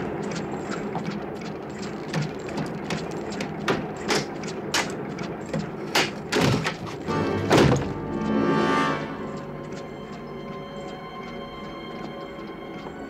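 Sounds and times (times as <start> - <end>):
rumbling background noise: 0.0 - 13.0.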